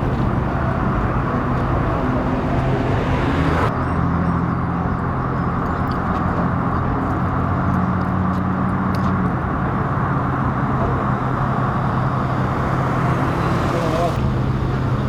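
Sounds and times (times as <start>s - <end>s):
vehicle engine idling: 0.0s - 3.7s, 4.6s - 15.0s
road noise: 0.0s - 15.0s.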